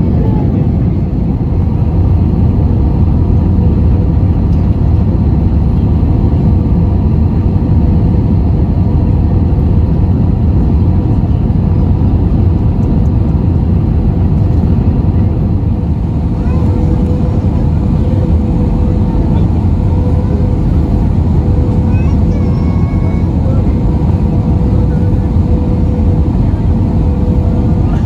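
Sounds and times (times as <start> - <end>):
jet engines roaring in cabin: 0.0 - 28.0.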